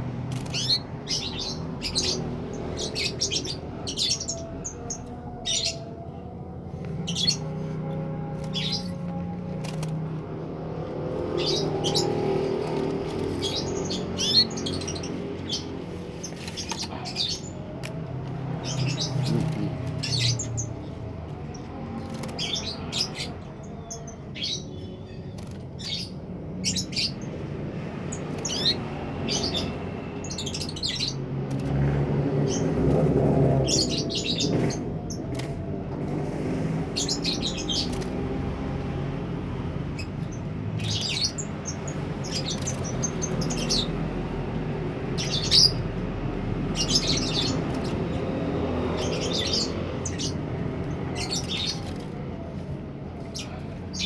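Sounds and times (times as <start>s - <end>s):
canary chirping: 0.1s - 6.0s, 7.0s - 35.6s, 37.0s - 54.0s.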